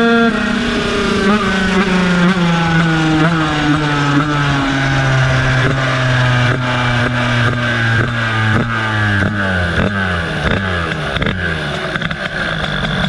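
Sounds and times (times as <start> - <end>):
two-stroke scooter engine decelerating: 0.0 - 13.0.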